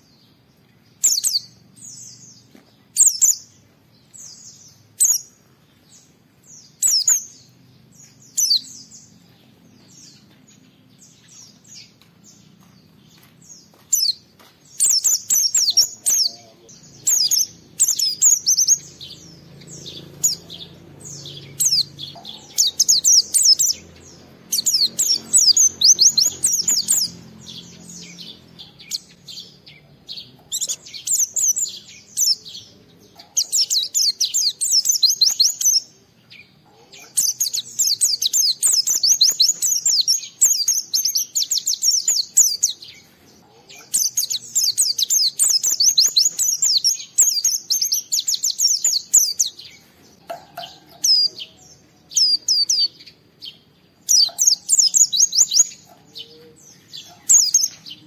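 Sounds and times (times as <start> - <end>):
bird twittering: 1.0 - 3.6, 4.2 - 11.9, 13.9 - 35.9, 36.8 - 58.0.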